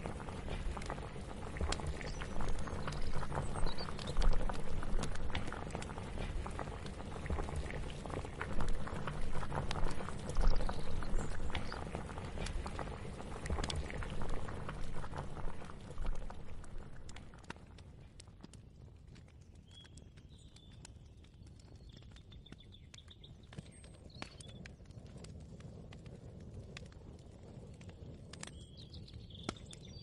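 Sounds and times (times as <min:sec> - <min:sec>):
pot bubbling at a boil: 0:00.0 - 0:30.0.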